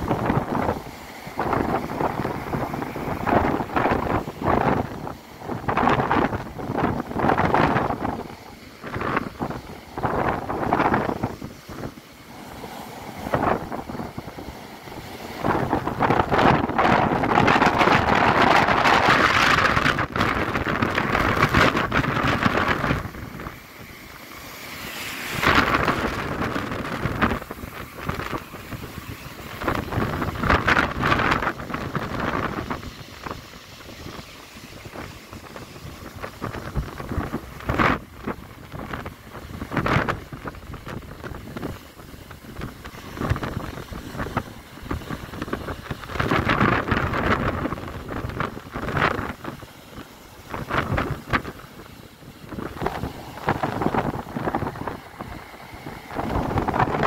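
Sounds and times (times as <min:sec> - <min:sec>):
waves crashing against sea wall: 0:00.0 - 0:57.0
wind buffeting microphone: 0:00.0 - 0:57.0.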